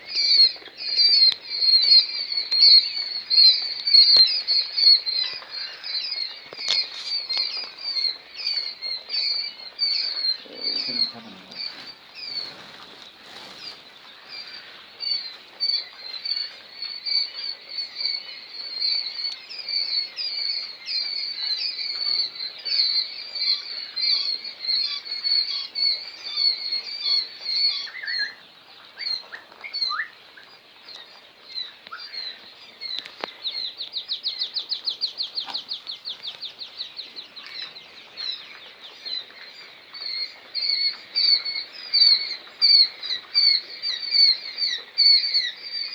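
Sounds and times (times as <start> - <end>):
quail chicks peeping: 0.0 - 45.9.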